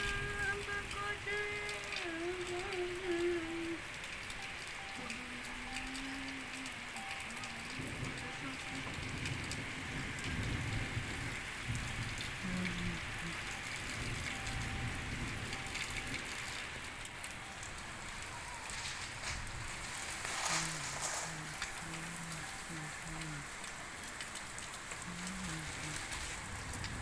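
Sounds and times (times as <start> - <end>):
raindrops pattering on surface: 0.0 - 27.0
steady rain falling: 0.0 - 27.0.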